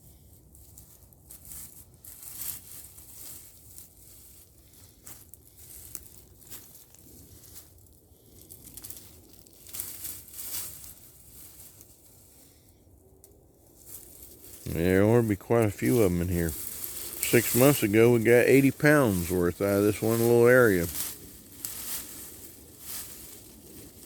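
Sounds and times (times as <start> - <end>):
wood chips and soil crunching: 0.1 - 12.7, 13.7 - 24.0.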